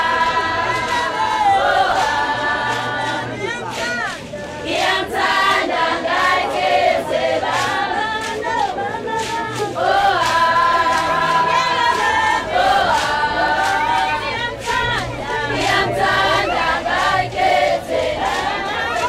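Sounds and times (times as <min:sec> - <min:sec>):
choir singing unaccompanied: 0:00.0 - 0:19.0.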